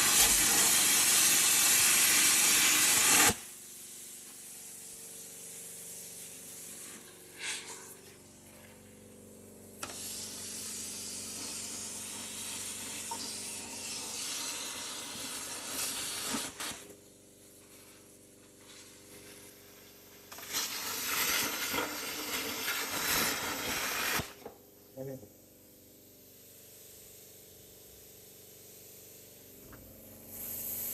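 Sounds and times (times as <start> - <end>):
electric arc hissing and sizzling: 0.0 - 8.5, 9.8 - 25.2, 26.0 - 30.9.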